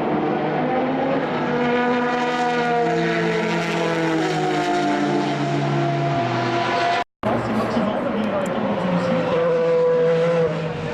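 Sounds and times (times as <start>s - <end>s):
race car engines passing: 0.0s - 10.9s.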